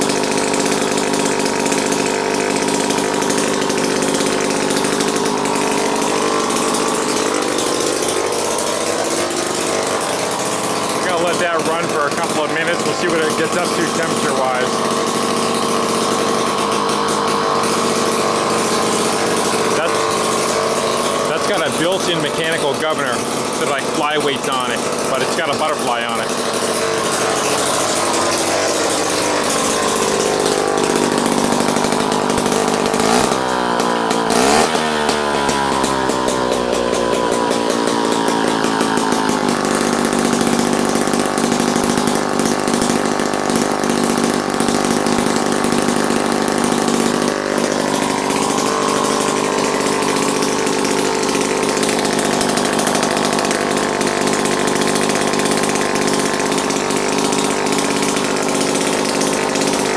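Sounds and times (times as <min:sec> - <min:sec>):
small single-cylinder engine running: 0:00.0 - 0:59.9.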